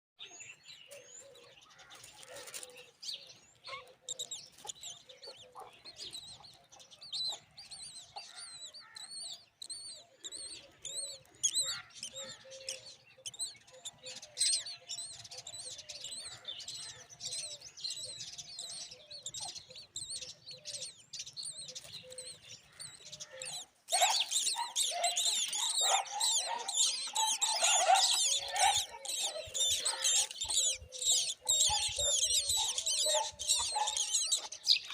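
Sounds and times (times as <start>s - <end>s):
chicks chirping: 0.9s - 34.9s.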